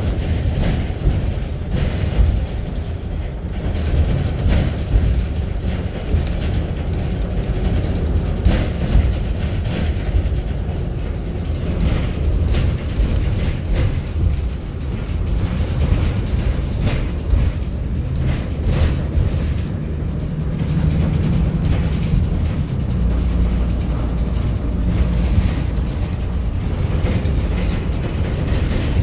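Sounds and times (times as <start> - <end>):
light knocks and rattles: 0.0 - 29.0
road rumble inside vehicle: 0.0 - 29.0.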